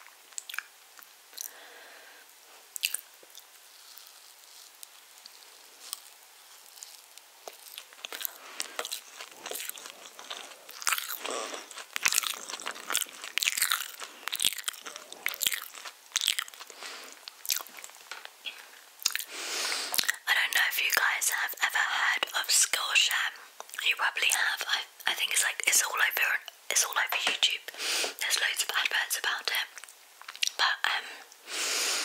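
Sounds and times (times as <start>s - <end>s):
close chewing and mouth sounds: 0.0s - 1.6s, 2.7s - 31.4s.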